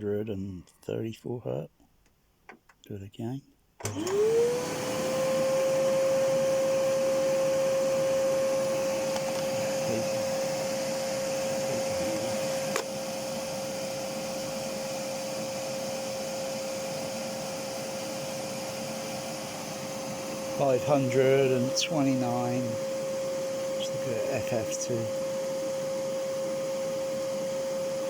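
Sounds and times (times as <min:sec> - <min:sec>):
vacuum cleaner whining: 0:03.8 - 0:28.0.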